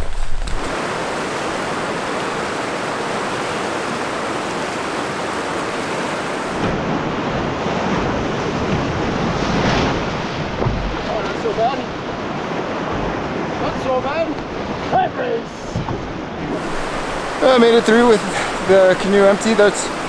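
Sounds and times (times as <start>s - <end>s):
low rumble of water: 0.0s - 20.0s
river rapid rushing: 0.0s - 20.0s.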